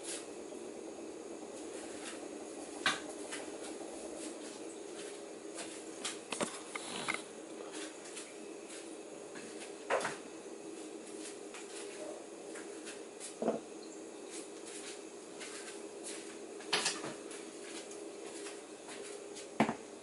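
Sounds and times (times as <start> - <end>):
steady kitchen hum: 0.0 - 20.0.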